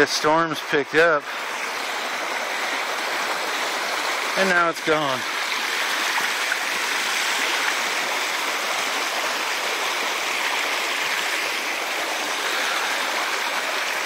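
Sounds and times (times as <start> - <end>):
creek rushing over stones: 0.0 - 14.0.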